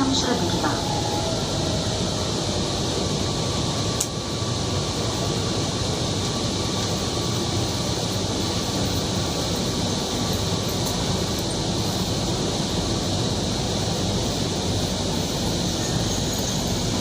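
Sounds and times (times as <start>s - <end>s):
train car interior hum: 0.0s - 17.0s.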